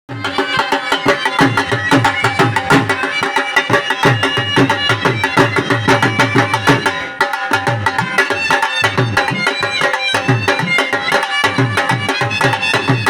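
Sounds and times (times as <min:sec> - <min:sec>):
fast dhol drumming: 0:00.1 - 0:13.0.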